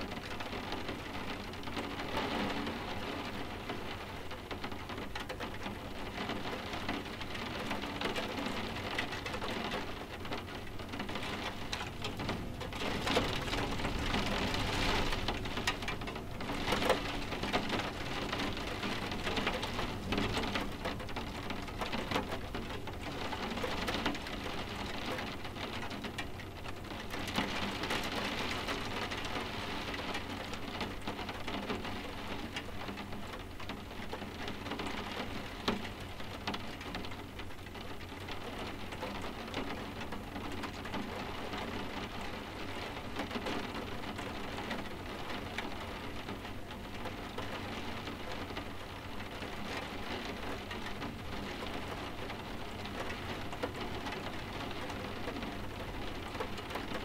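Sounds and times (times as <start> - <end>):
rain tapping on windows: 0.0 - 57.0.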